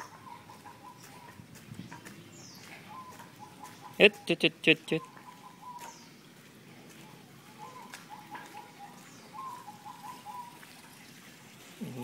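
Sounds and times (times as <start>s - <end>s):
bird chirping: 0.0s - 6.3s, 6.9s - 10.6s.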